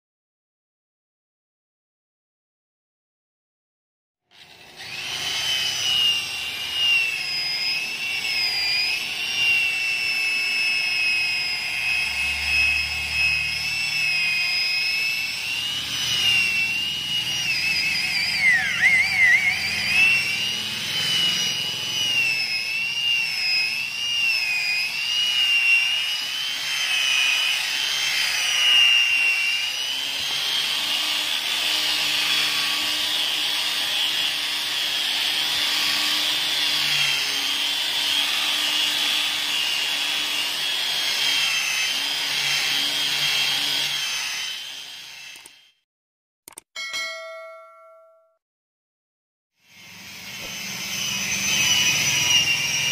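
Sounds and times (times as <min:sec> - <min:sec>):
electric car polisher whining: 0:04.4 - 0:45.8, 0:49.6 - 0:52.9.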